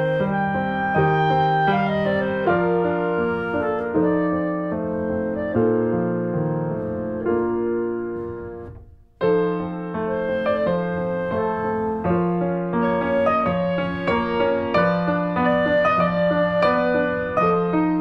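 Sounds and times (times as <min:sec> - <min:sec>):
gentle piano-like keyboard music: 0:00.0 - 0:18.0.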